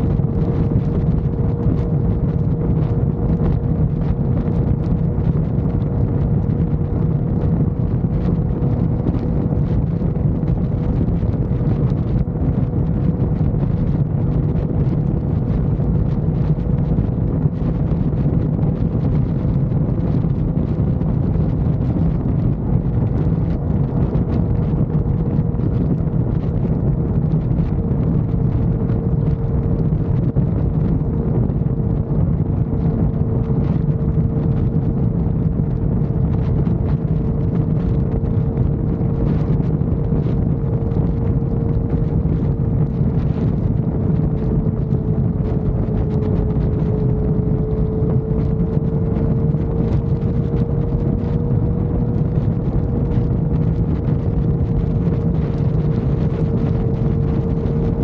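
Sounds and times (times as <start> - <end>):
motorcycle engine drone: 0.0 - 58.0
wind rushing over microphone: 0.0 - 58.0.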